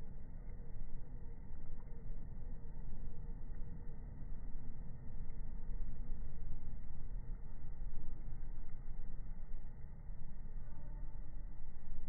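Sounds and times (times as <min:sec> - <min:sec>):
slowed campfire rumble: 0:00.0 - 0:12.0.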